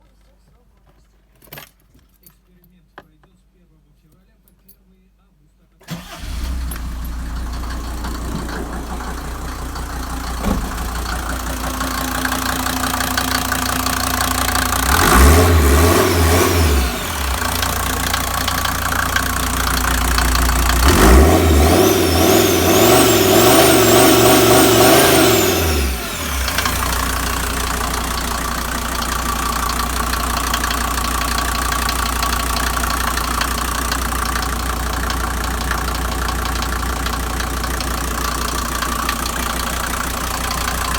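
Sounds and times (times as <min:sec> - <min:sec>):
diesel engine idling and revving: 0:05.9 - 0:40.9.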